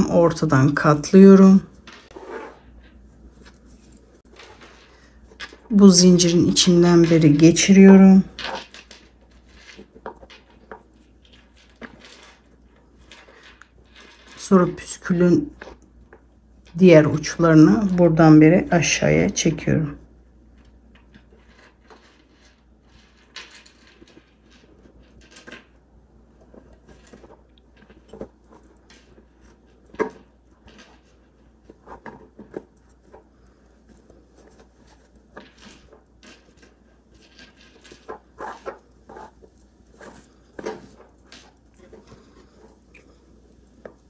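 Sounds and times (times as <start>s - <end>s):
cord rustling: 0.0s - 44.0s.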